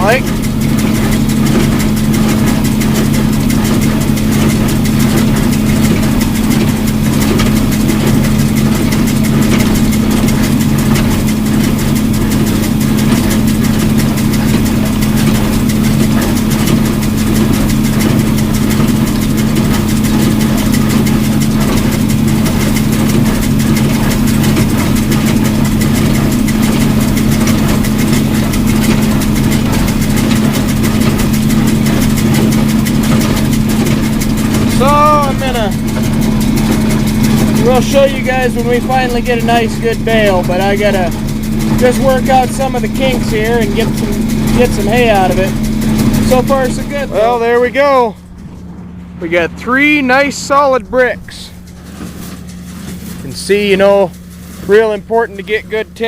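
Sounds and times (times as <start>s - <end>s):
baler baling hay: 0.0s - 56.0s
tractor diesel engine running: 0.0s - 56.0s.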